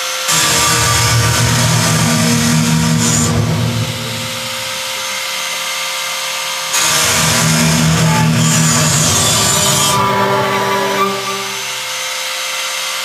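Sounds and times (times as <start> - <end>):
grinding noise drone: 0.0 - 5.5, 6.7 - 11.9.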